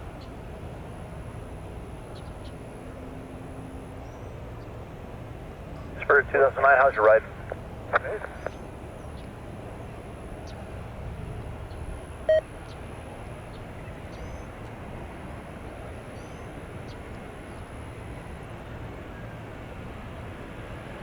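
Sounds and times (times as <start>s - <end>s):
jet aircraft noise: 0.0s - 21.0s.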